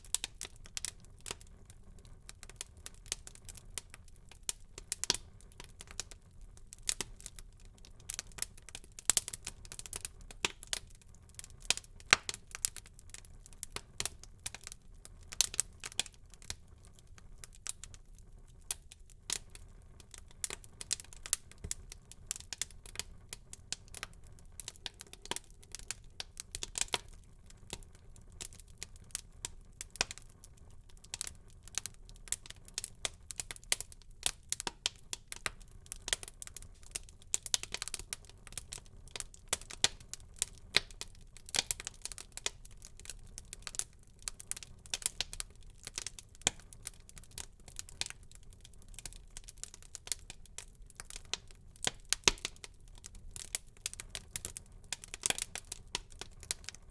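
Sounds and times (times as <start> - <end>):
fire crackling and popping: 0.0 - 56.9
low fire hiss: 0.0 - 56.9.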